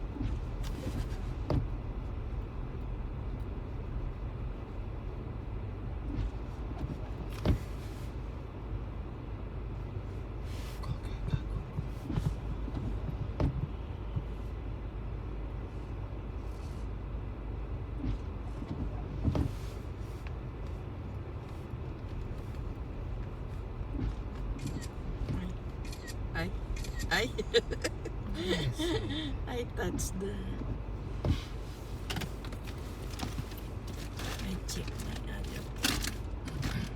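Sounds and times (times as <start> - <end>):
car cabin rumble: 0.0 - 36.9.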